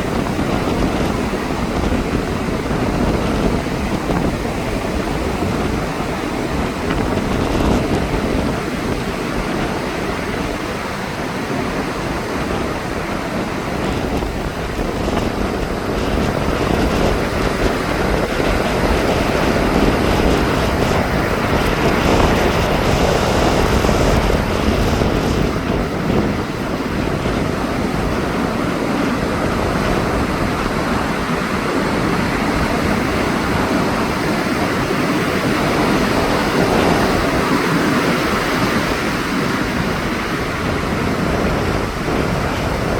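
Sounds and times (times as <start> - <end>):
ocean surf breaking on beach: 0.0 - 42.9
wind buffeting microphone: 0.0 - 42.9.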